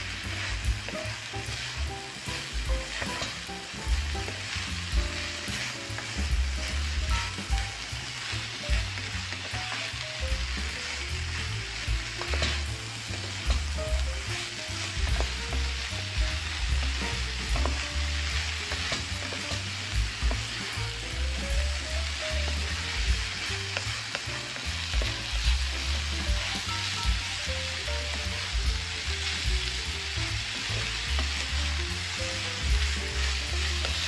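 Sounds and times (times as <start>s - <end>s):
background music with bass: 0.0s - 34.0s
carrots sizzling in a pot: 0.0s - 34.0s.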